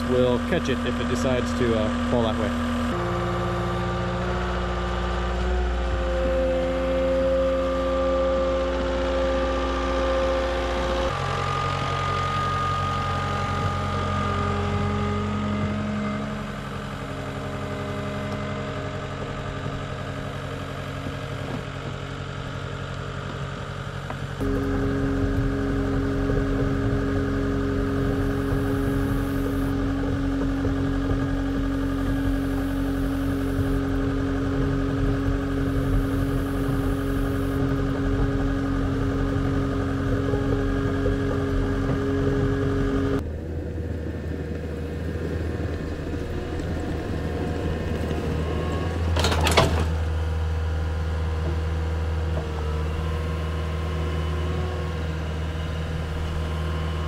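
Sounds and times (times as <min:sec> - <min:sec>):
skid steer engine running: 0:00.0 - 0:57.0.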